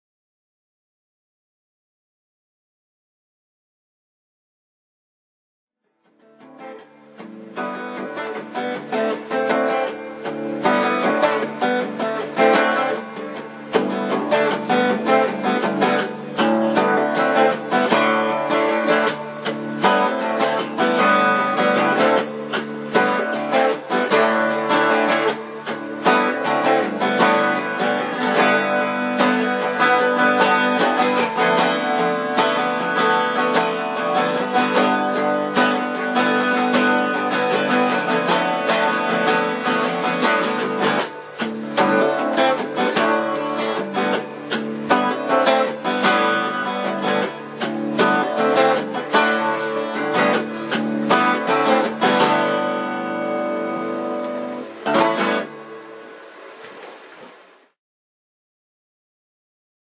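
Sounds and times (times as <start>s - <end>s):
guitar strumming chords: 6.1s - 57.2s.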